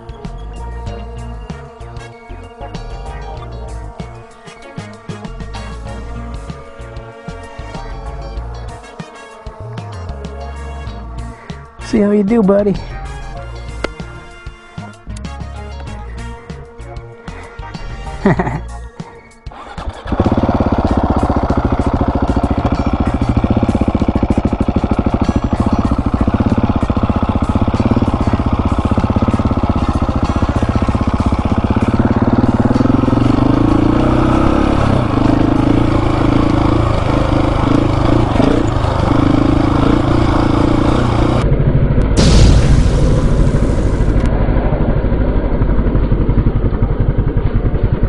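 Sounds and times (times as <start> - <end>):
motorcycle engine running hard: 0.0 - 48.0.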